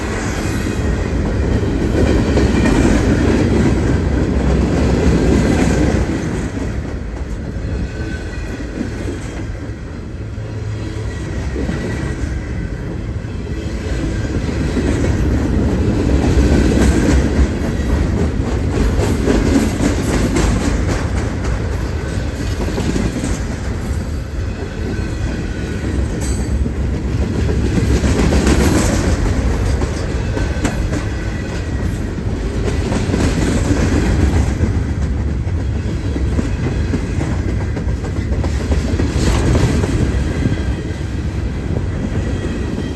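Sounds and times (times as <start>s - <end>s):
train cars clacking over rails: 0.0s - 42.9s.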